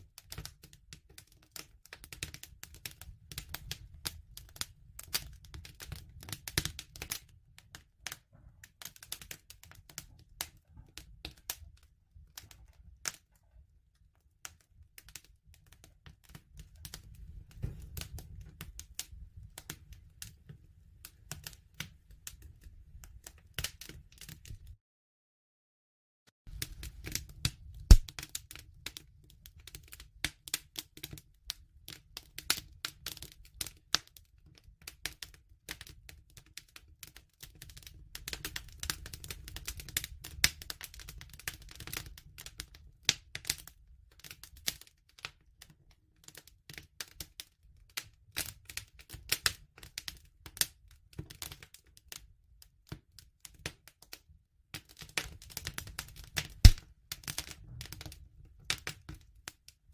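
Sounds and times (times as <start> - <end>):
wood fire crackling and popping: 0.0 - 24.8, 26.5 - 52.2, 54.7 - 59.6.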